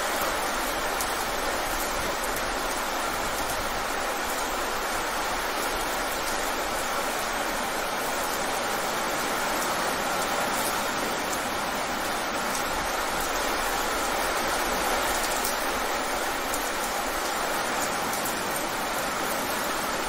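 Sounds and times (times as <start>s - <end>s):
rain falling on pavement: 0.0s - 20.0s.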